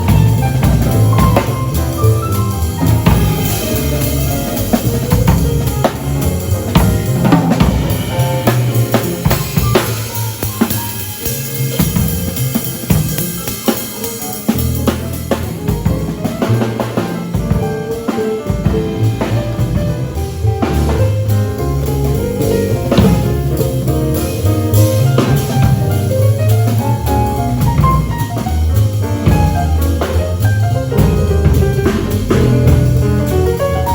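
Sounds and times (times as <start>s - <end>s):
jazz drum kit playing: 0.0s - 33.9s
pitched notes beneath drums: 0.0s - 33.9s.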